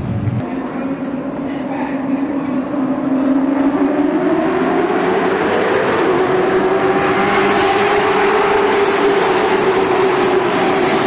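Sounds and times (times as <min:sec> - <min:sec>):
race car engines droning past: 0:00.0 - 0:11.0.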